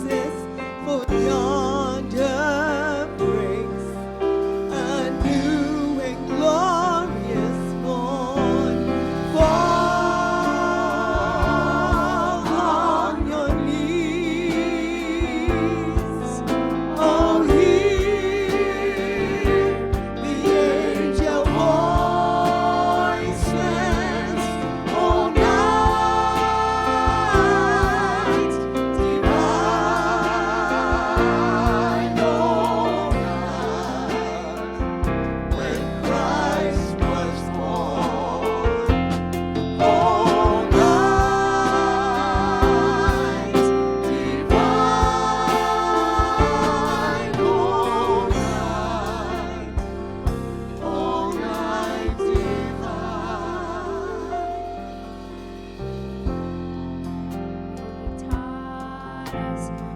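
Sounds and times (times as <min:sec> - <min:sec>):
singers with wide vibrato: 0:00.0 - 0:56.0
instrumental backing with steady beat: 0:00.0 - 0:59.9.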